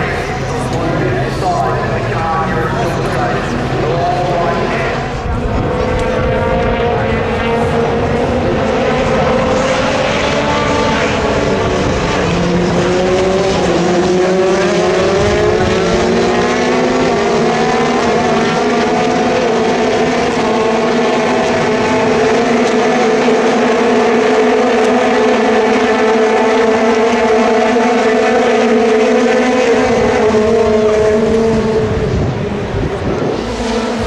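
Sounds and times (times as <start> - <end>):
racing car engines revving: 0.0 - 34.0.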